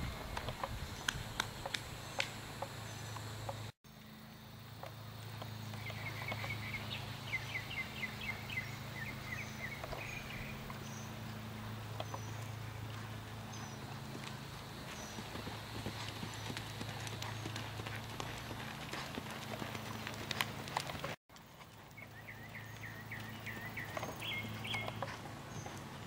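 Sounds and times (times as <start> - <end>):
steady low hum: 0.0 - 26.0
horse hoofbeats on sand: 4.8 - 26.0.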